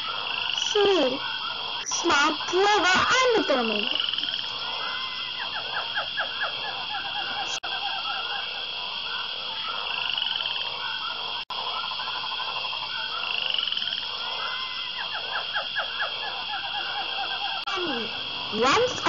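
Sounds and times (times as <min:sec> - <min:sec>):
chorus of frogs croaking: 0:00.0 - 0:19.0.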